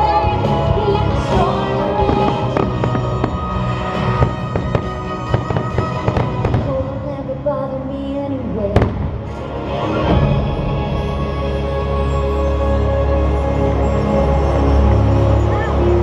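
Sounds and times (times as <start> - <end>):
music over loudspeakers: 0.0 - 16.0.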